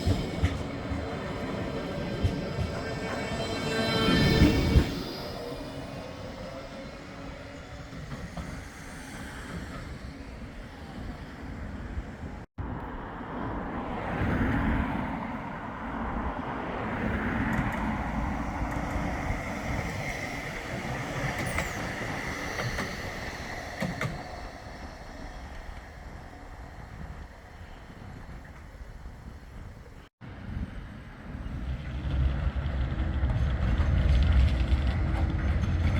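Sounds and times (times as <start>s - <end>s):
tram rumbling along track: 0.0s - 35.9s.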